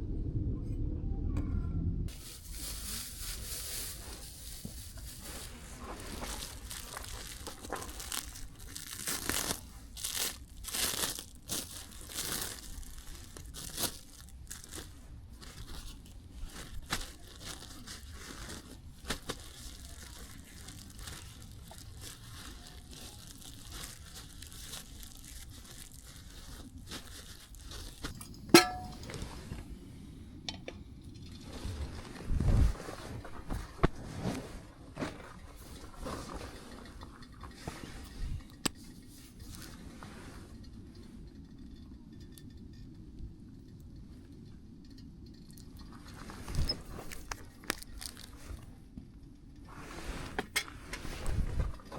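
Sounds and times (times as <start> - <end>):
rustling and crinkling handling: 2.1 - 29.8, 30.6 - 41.8, 45.3 - 51.9.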